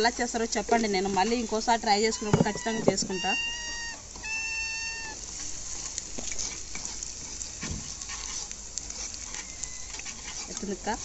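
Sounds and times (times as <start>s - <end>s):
spices sizzling in a pan: 0.0s - 11.0s.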